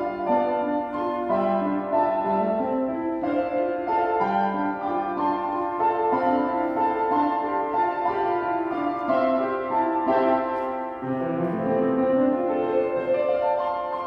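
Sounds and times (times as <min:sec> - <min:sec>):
solo piano melody: 0:00.0 - 0:14.0.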